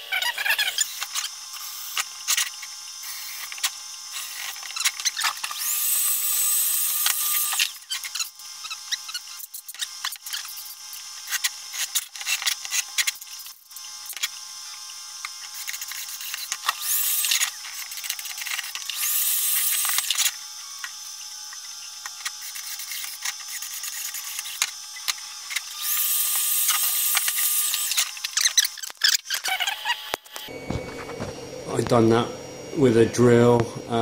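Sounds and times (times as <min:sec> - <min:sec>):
small electric motor whining: 0:00.0 - 0:34.0.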